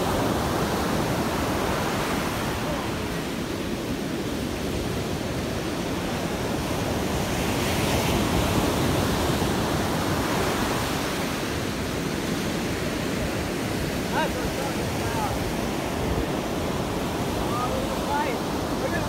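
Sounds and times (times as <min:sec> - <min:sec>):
ocean surf breaking on beach: 0:00.0 - 0:19.0.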